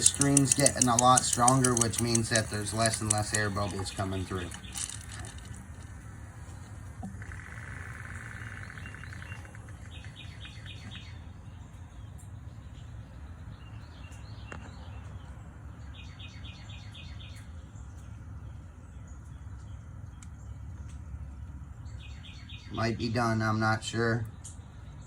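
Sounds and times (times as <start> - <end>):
songbirds chirping: 0.0 - 25.0
steady low hum: 0.0 - 25.0.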